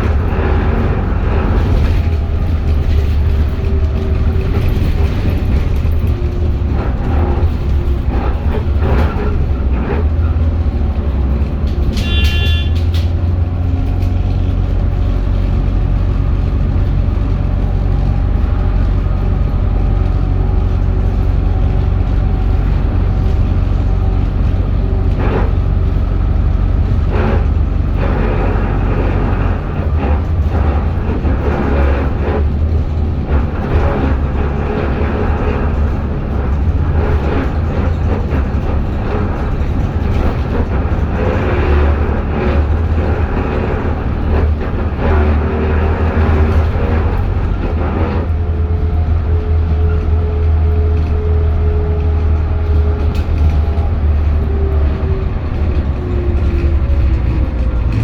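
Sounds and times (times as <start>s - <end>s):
bus engine drone: 0.0s - 58.0s
rattles and knocks: 0.0s - 58.0s.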